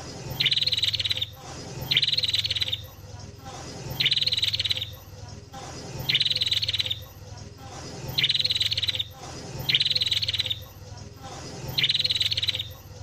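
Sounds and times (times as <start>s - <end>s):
steady low hum: 0.0s - 13.0s
songbird chattering trill: 0.1s - 10.9s, 11.5s - 12.9s.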